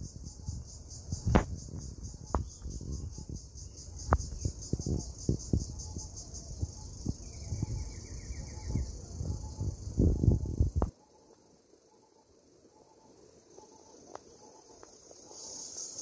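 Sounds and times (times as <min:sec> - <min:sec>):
insect chorus chirring: 0:00.0 - 0:16.0.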